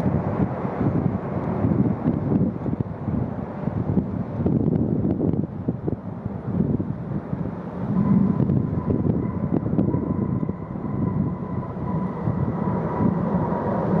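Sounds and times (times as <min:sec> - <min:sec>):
jet engines rumbling: 0:00.0 - 0:14.0
thin steady whine: 0:00.0 - 0:14.0.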